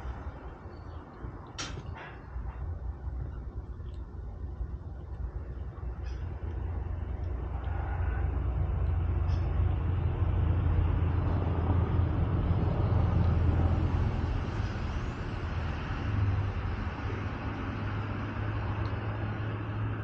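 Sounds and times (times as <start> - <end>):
low rumble of road traffic: 0.0 - 20.0.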